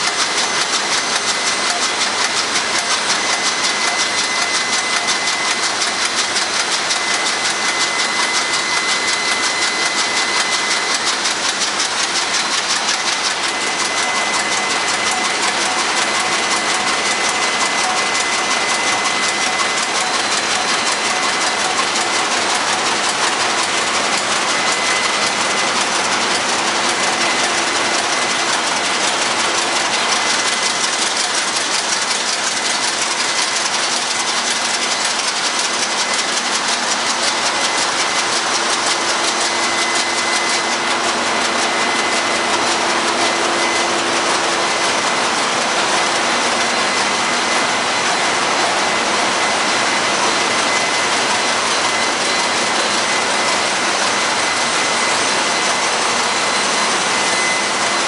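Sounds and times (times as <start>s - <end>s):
marine diesel engine clatter: 0.0s - 58.0s.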